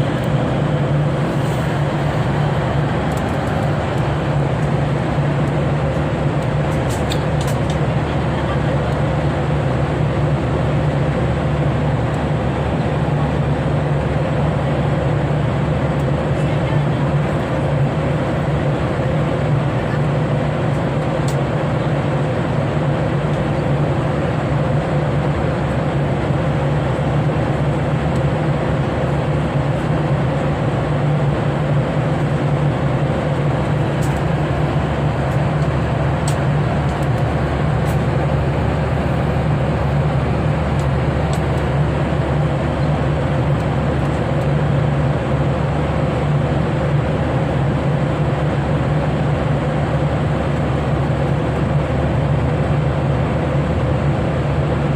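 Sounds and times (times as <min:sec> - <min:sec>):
airliner cabin drone: 0:00.0 - 0:54.9.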